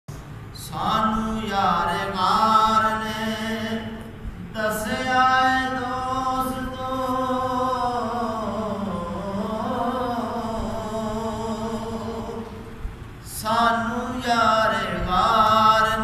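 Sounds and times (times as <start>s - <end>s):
man reciting melodically: 0.5s - 16.0s.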